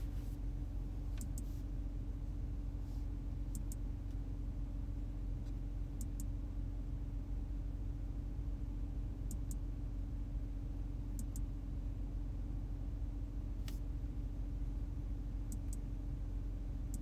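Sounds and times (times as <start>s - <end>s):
car cabin hum: 0.0s - 17.0s.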